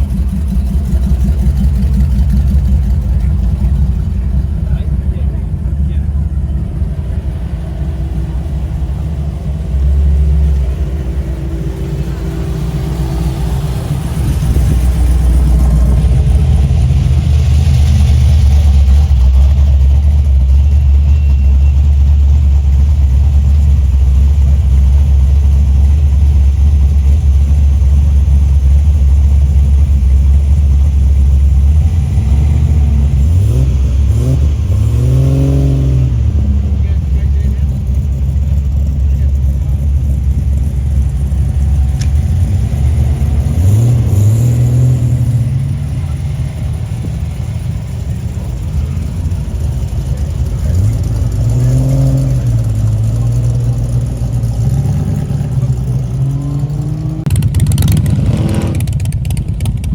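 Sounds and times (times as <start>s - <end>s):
car engine rumbling: 0.0s - 59.9s
engine revving: 0.0s - 59.9s.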